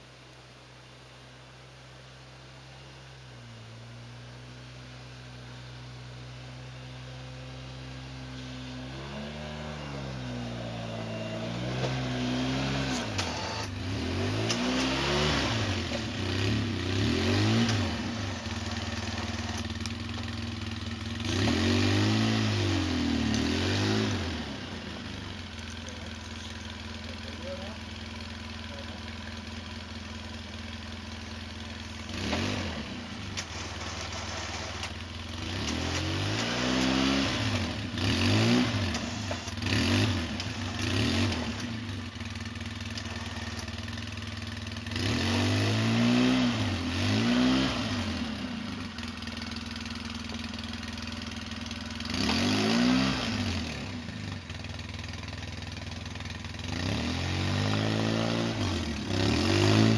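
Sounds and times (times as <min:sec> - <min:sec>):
atv engine idling and revving: 0:00.0 - 0:59.9.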